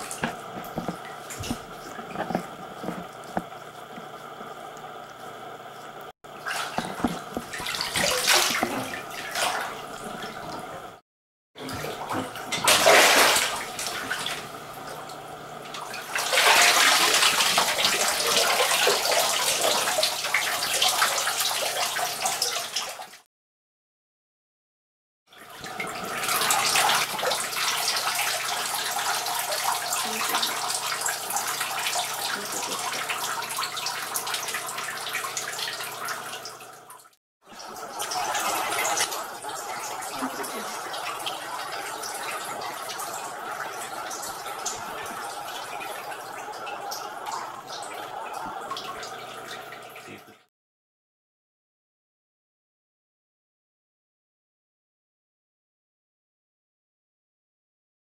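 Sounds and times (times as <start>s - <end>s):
water running in bathroom: 0.0s - 11.0s, 11.6s - 23.3s, 25.3s - 50.5s.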